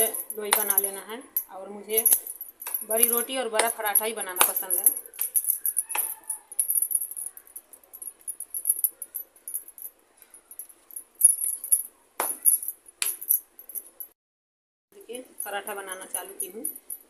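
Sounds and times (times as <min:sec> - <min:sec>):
glass bangles clinking: 0:00.0 - 0:14.2, 0:15.3 - 0:17.0.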